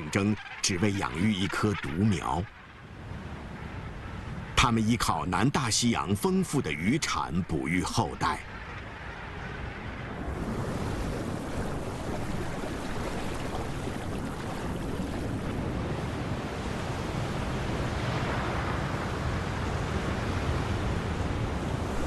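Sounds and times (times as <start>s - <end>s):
waves rushing: 0.0s - 22.0s
wind: 0.0s - 22.0s.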